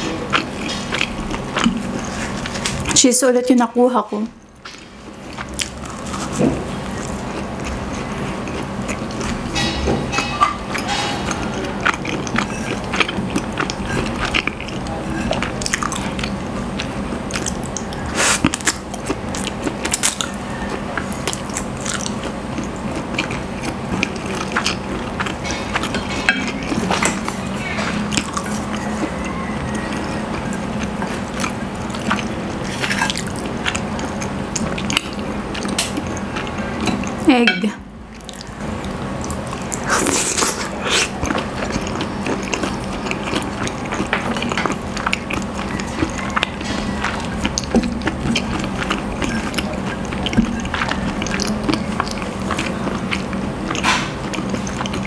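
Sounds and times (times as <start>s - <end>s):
close-miked chewing and smacking: 0.0s - 3.0s, 4.5s - 37.4s, 38.1s - 55.0s.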